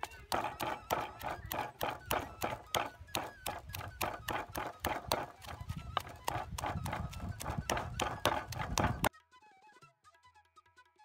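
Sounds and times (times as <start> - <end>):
pestle pounding in mortar: 0.0 - 9.1.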